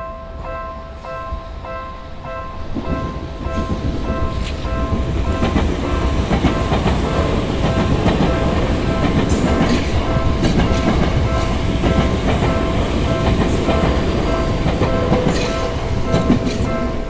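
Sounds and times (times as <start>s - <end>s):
crossing warning bell ringing: 0.0s - 17.0s
train wheels clattering over rails: 2.6s - 17.0s.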